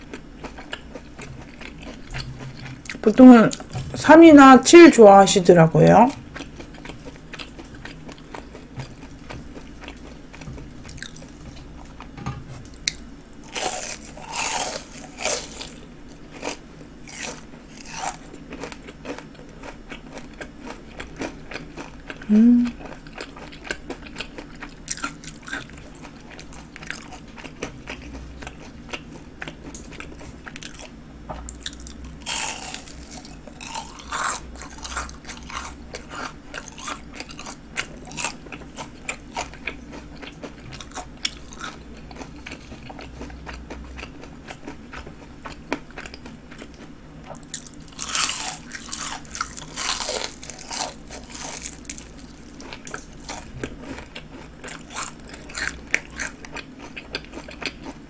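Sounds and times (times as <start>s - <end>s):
chewing crunchy fried food: 0.0s - 4.1s, 6.1s - 58.0s.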